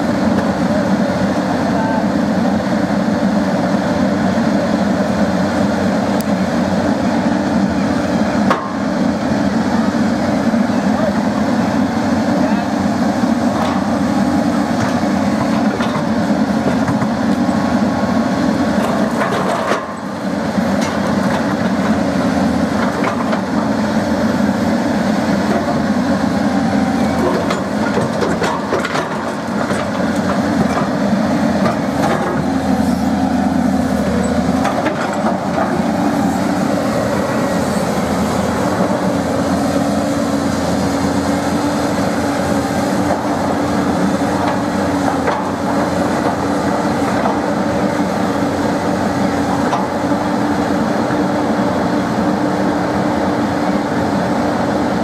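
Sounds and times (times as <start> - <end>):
machine rumble and hum: 0.0 - 55.0.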